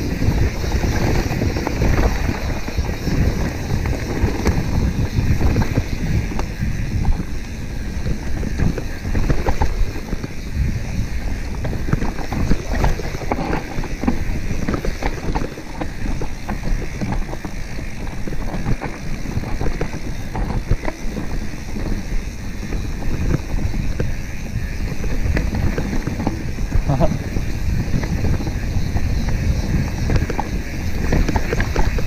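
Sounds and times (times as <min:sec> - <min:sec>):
bike clicks and rattles: 0:00.0 - 0:32.0
bike tyres on dirt and stones: 0:00.0 - 0:32.0
wind rumble on microphone: 0:00.0 - 0:32.0.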